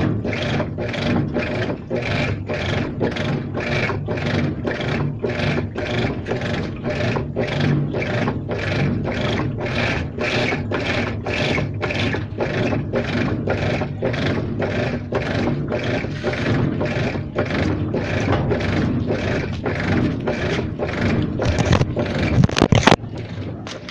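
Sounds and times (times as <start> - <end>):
rhythmic scraping noise: 0.0 - 23.9
washing machine hum: 0.0 - 23.9.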